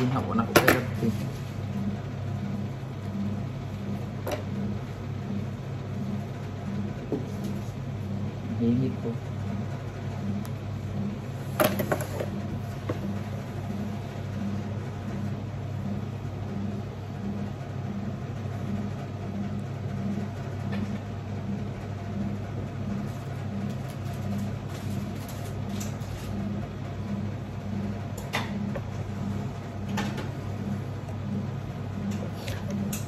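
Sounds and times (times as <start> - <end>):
pulsing low machine hum: 1.3 - 11.6, 12.3 - 33.0.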